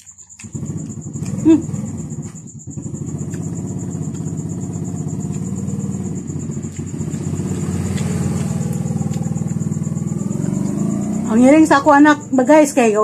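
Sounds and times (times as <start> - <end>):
engine running with even putter: 0.0 - 13.0.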